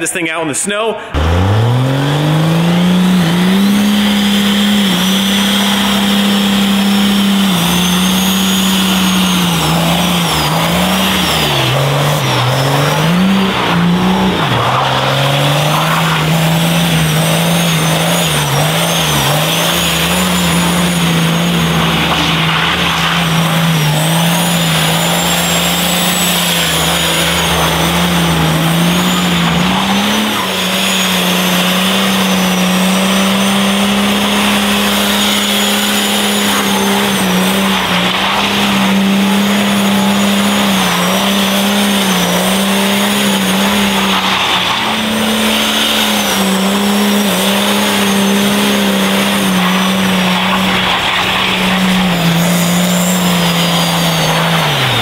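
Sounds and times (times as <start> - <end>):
diesel engine at high revs: 0.0 - 55.0
high wavering tire squeal: 1.0 - 55.0.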